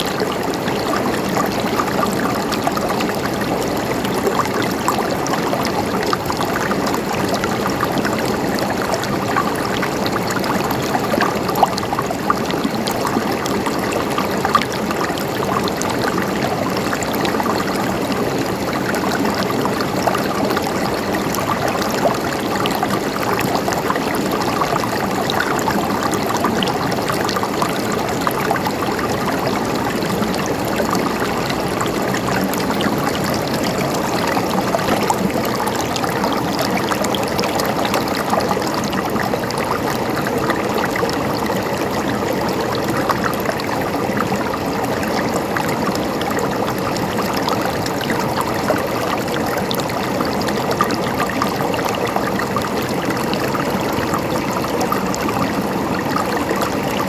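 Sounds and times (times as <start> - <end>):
water flowing and gurgling: 0.0 - 57.0.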